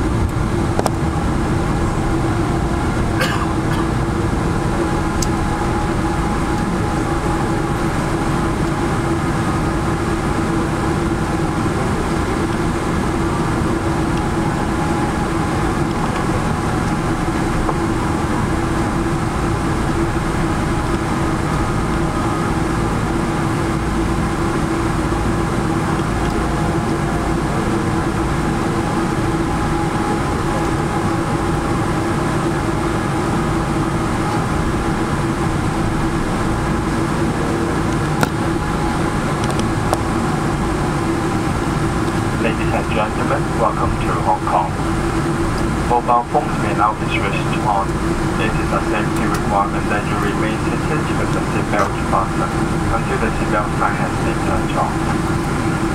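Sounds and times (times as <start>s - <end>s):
jet engines rumbling: 0.0s - 55.9s
steady hum: 0.0s - 55.9s.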